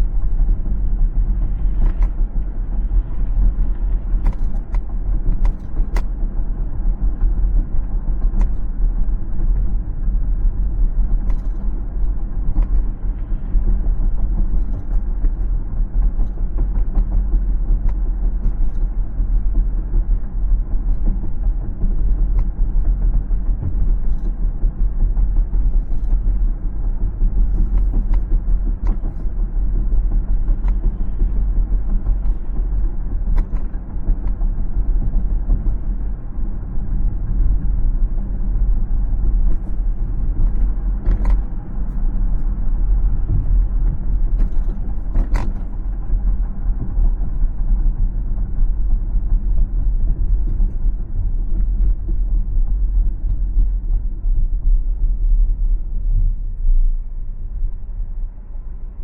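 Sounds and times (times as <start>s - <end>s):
car road and tyre noise: 0.0s - 59.0s.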